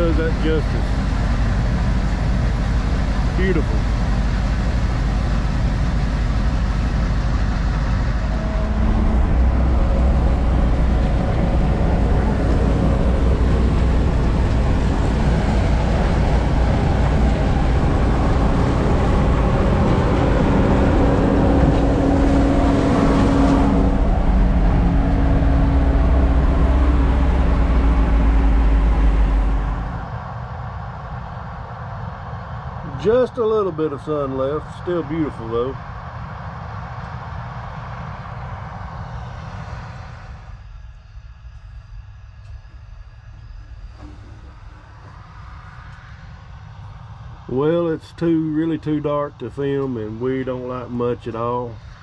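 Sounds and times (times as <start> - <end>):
diesel engine drone: 0.0 - 52.0
steady hum: 0.0 - 52.0.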